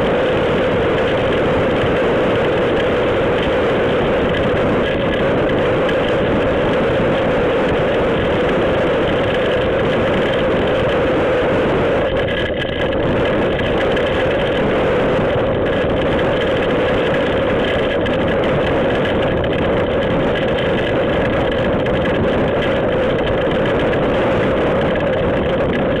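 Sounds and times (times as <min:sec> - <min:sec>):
storm wind: 0:00.0 - 0:26.0.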